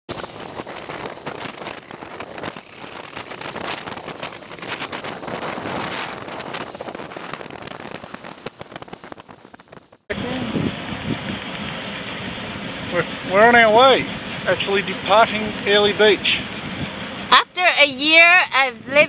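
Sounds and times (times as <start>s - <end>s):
wind buffeting microphone: 0.1s - 19.0s.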